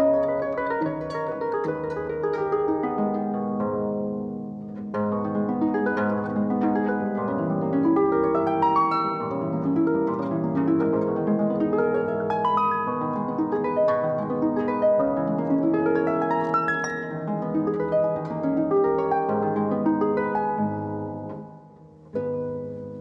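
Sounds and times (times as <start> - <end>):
harp plucked notes: 0.0 - 23.0.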